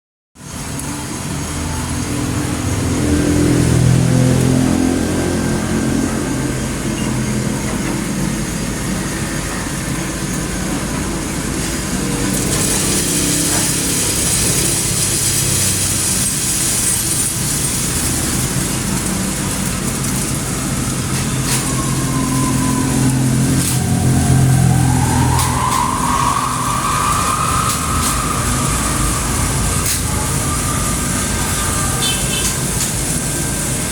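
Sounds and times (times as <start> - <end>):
coffee roaster humming: 0.4 - 33.9
rising whine: 0.5 - 33.9.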